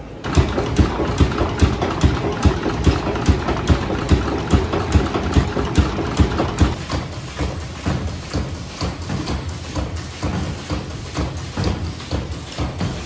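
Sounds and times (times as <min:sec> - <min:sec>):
stationary engine knocking: 0:00.2 - 0:12.9.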